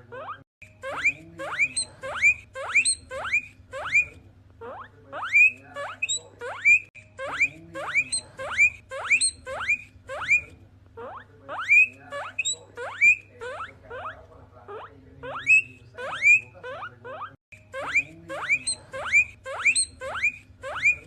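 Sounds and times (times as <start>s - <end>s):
guinea pigs squealing: 0.0s - 21.0s.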